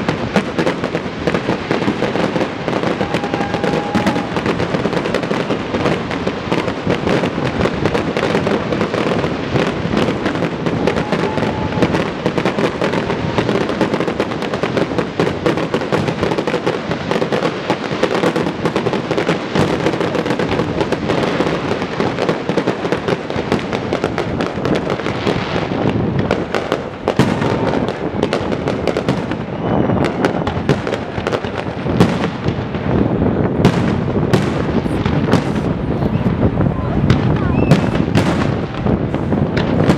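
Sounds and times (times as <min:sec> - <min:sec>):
fireworks crackling and banging: 0:00.0 - 0:39.9.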